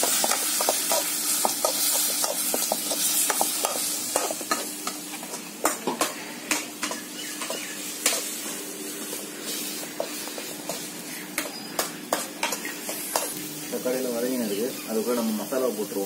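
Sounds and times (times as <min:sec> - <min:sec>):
masala sizzling in pan: 0:00.0 - 0:16.0.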